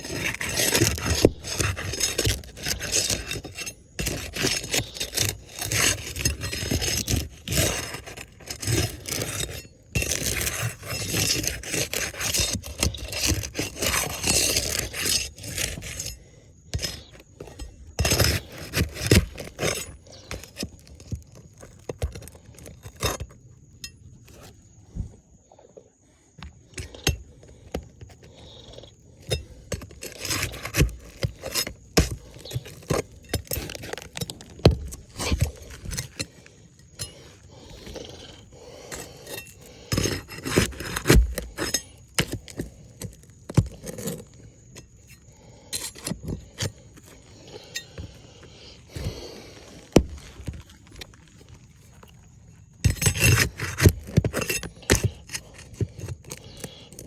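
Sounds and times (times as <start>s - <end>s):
small hard objects clicking and scraping: 0.0s - 24.5s, 26.4s - 57.0s.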